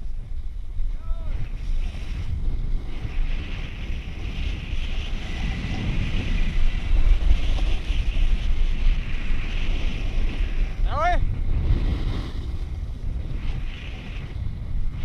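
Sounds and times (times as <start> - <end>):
snowboard sliding on snow: 0.0 - 15.0
wind buffeting microphone: 0.0 - 15.0.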